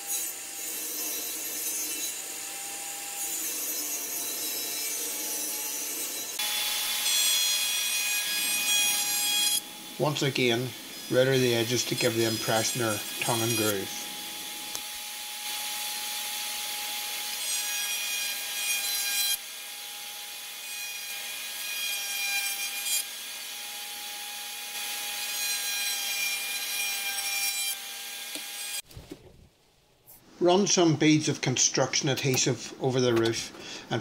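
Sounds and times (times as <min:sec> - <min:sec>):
router bit cutting wood: 0:00.0 - 0:28.8.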